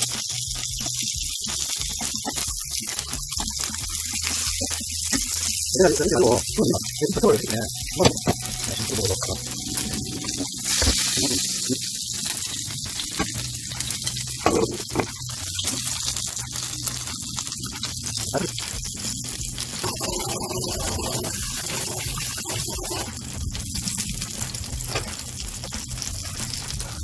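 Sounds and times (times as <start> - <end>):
meat sizzling in a frying pan: 0.0 - 27.0
stew bubbling in a pot: 0.0 - 27.0.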